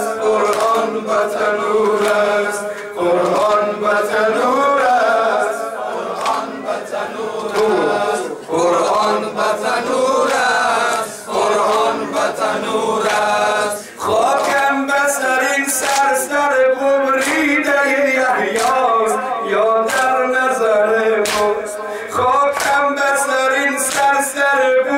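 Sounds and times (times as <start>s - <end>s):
male voices chanting: 0.0s - 24.9s
man chanting a lament: 0.0s - 24.9s.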